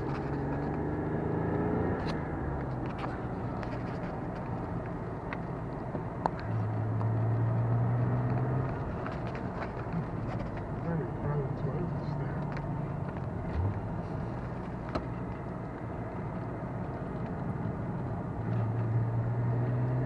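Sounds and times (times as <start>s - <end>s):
car engine running: 0.0s - 20.0s
tyre and road noise: 0.0s - 20.0s.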